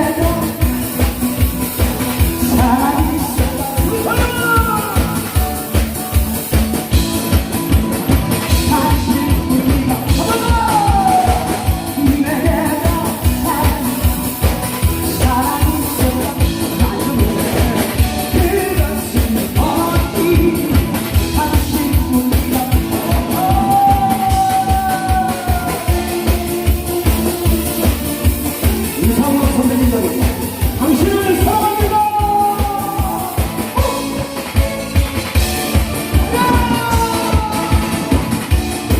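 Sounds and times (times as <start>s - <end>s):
person singing: 0.0s - 1.2s, 2.2s - 5.6s, 8.5s - 27.9s, 28.5s - 34.6s, 35.7s - 38.6s
live band playing: 0.0s - 38.9s
steady drum beat: 0.0s - 38.9s.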